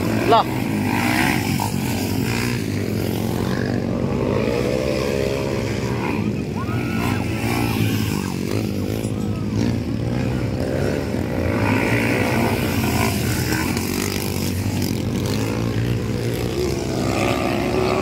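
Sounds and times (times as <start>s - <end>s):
dirt bike engines running: 0.0s - 18.0s.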